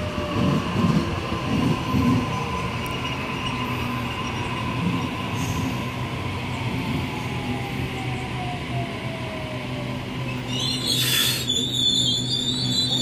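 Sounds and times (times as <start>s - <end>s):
train rolling rumble: 0.0s - 13.0s.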